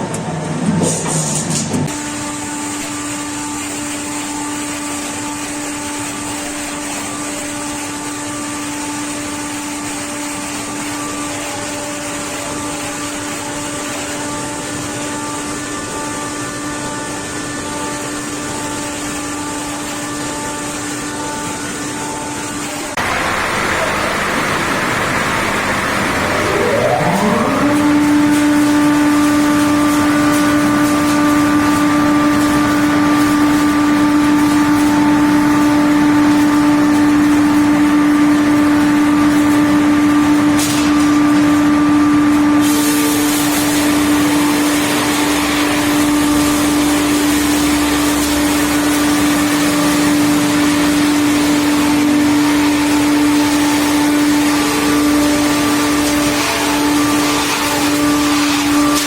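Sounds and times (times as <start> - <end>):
circular saw whining: 1.9 - 59.0.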